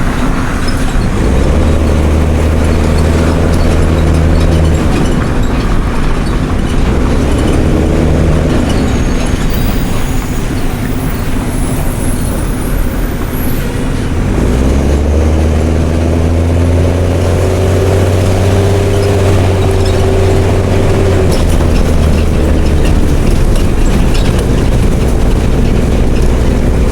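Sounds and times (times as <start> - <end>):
diesel bus engine under load: 0.0 - 26.9.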